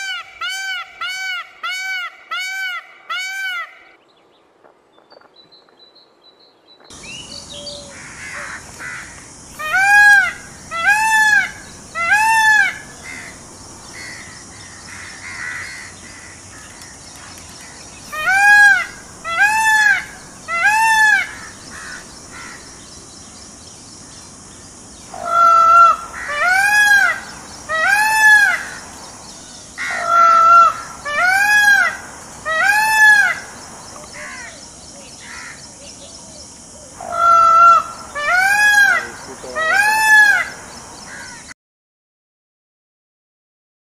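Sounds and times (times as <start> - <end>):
peacock calling: 0.0 - 4.0, 6.9 - 23.4, 24.0 - 41.6.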